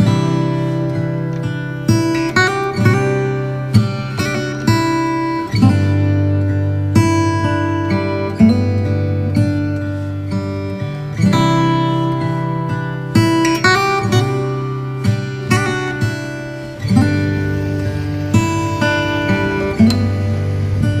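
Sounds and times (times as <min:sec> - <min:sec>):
acoustic guitar slow chords: 0:00.0 - 0:21.0.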